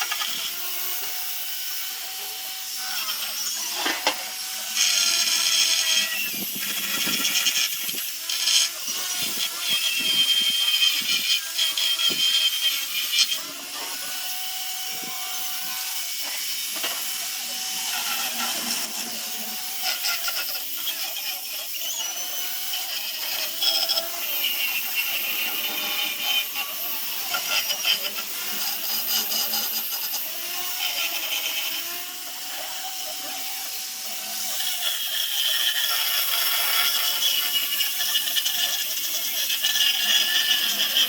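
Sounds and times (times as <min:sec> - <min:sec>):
power sander on wood: 0:00.0 - 0:41.0.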